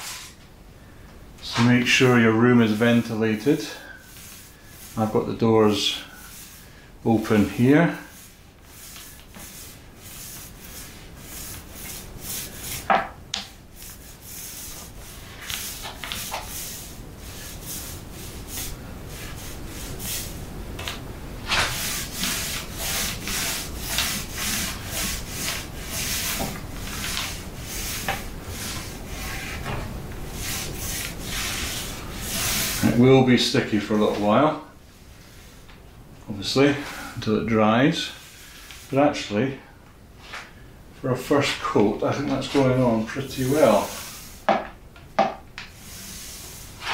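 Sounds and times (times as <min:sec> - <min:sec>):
paint roller swishing on wood: 0:00.0 - 0:00.4, 0:01.4 - 0:35.8, 0:41.2 - 0:46.9.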